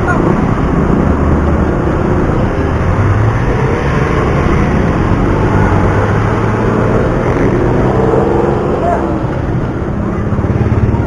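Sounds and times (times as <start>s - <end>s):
road traffic engines: 0.0s - 11.0s
wind rush on microphone: 0.0s - 11.0s.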